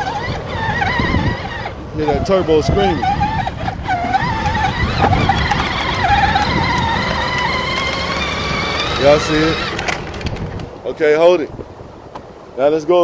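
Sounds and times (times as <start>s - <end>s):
electric drive whine: 0.0s - 10.9s
wheels rolling: 0.0s - 11.3s.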